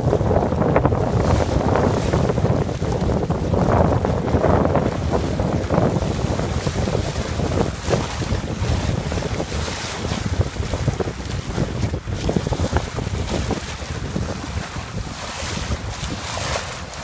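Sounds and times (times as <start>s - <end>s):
water splashing along boat hull: 0.0s - 17.0s
wind buffeting microphone: 0.0s - 17.0s.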